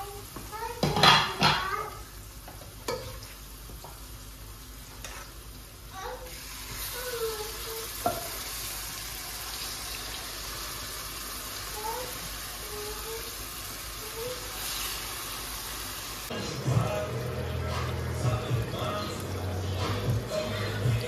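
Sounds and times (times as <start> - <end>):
onions sizzling in oil: 0.0 - 19.6.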